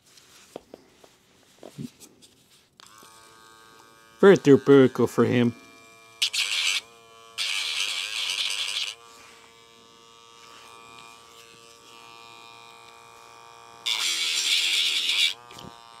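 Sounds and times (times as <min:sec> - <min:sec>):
grinder humming: 0:02.8 - 0:16.0
nail grinder grinding: 0:02.8 - 0:16.0.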